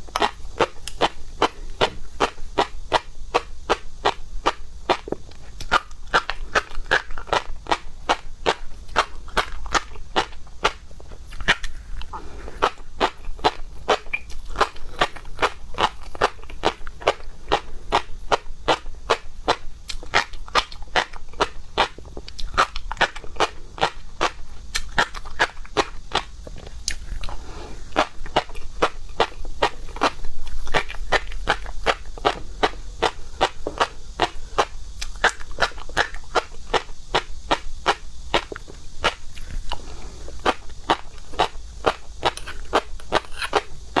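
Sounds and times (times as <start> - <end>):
wet crunchy chewing: 0.0 - 44.0.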